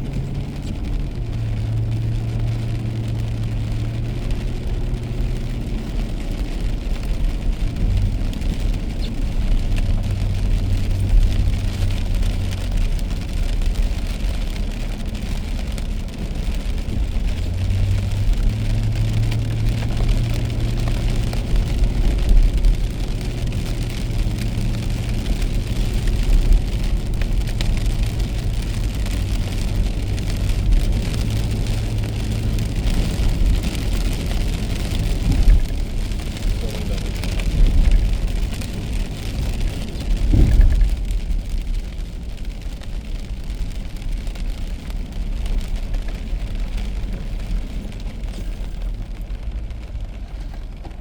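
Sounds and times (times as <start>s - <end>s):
car engine and road hum: 0.0s - 51.0s
rain on car: 0.0s - 51.0s
tyres hissing on wet pavement: 0.0s - 51.0s.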